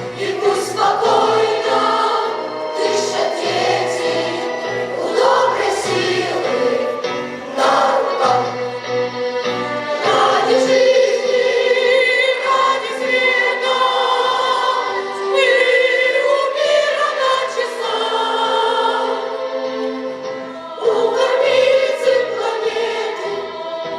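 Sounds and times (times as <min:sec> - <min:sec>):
children's choir singing: 0:00.0 - 0:23.9.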